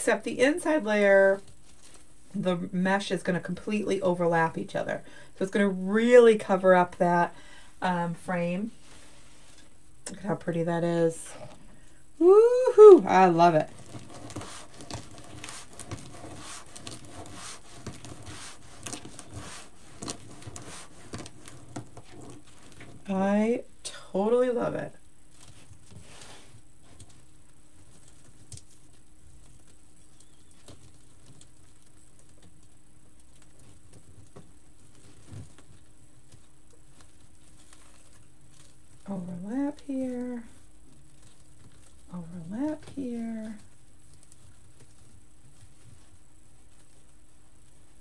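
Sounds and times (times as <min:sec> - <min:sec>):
mesh rustling and crinkling: 0:00.0 - 0:04.6, 0:08.1 - 0:23.3, 0:24.4 - 0:48.0.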